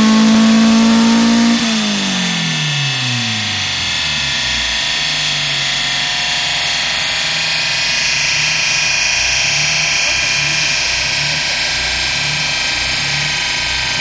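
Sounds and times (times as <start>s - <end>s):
car engine revving down: 0.0s - 14.0s.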